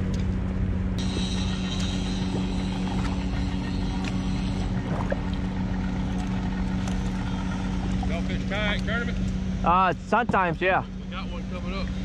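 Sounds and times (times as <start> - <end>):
boat motor idling: 1.0 - 12.0.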